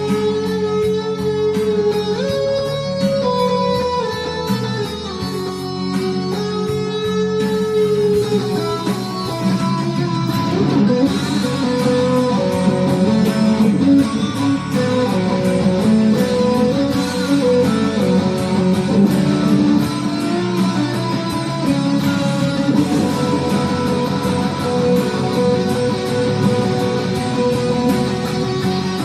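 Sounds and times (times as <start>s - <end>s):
guitar plucking a melody: 0.0s - 29.0s.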